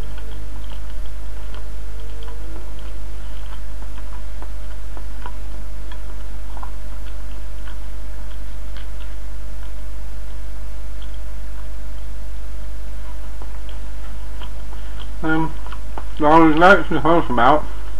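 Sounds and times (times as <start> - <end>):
chewing: 0.0 - 16.7
loud low hum: 0.0 - 17.9.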